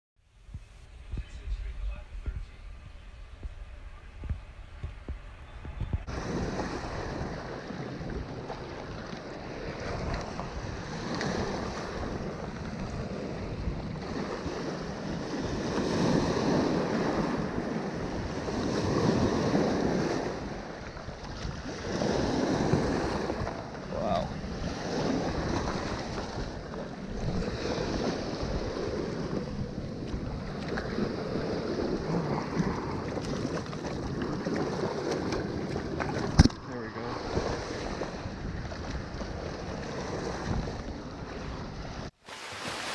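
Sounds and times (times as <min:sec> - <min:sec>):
wind buffeting microphone: 0:00.4 - 0:42.2
surf washing over rocks: 0:03.4 - 0:42.9.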